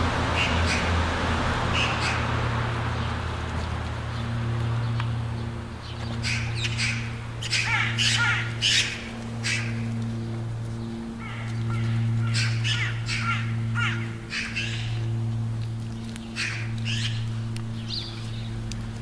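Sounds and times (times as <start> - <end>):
steady low hum: 0.0 - 19.0
bird harsh calls: 0.3 - 18.7.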